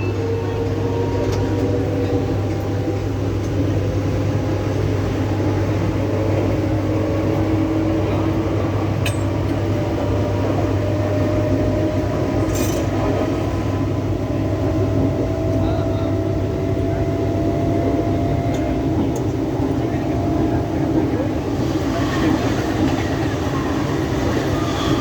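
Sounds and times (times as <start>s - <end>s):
train rumbling with motor whine: 0.0s - 25.0s.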